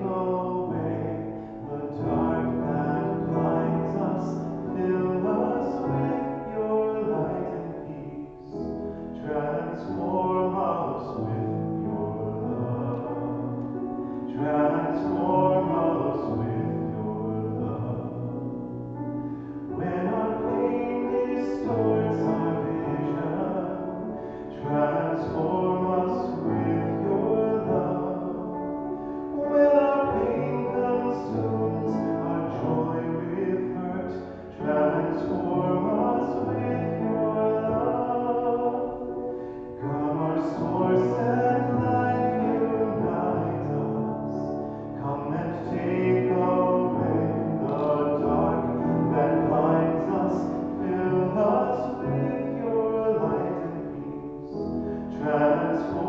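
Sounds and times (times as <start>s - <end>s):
grand piano: 0.0s - 56.0s
person singing: 0.0s - 56.0s.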